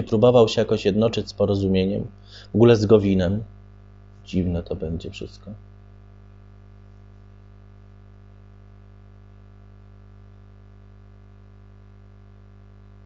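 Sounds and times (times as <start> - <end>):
faint buzz: 0.0 - 13.0
low electrical hum: 0.0 - 13.0.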